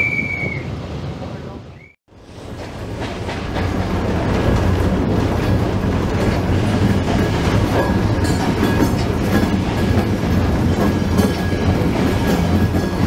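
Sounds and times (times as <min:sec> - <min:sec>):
train wheels clattering over rails: 0:02.1 - 0:13.0.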